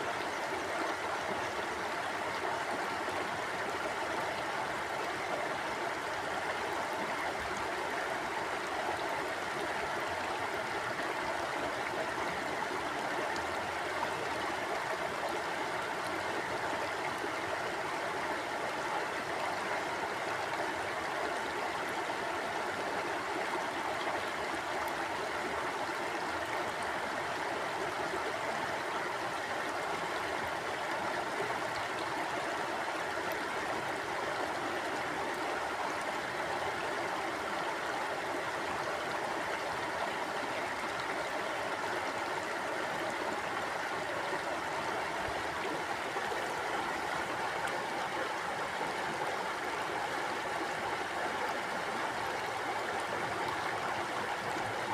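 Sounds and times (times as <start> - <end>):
stream water gurgling: 0.0 - 54.9.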